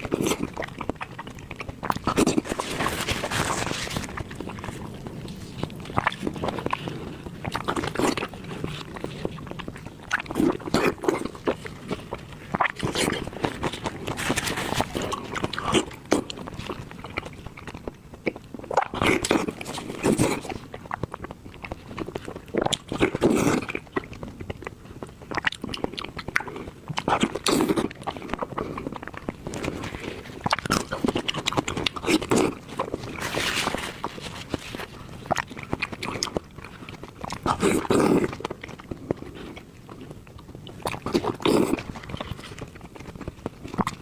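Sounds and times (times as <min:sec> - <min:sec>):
chewing and biting food: 0:00.0 - 0:44.0.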